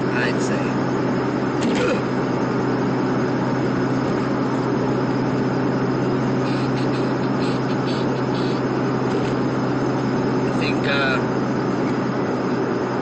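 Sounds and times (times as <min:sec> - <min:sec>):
constant low hum: 0:00.0 - 0:13.0
engine and road noise drone: 0:00.0 - 0:13.0.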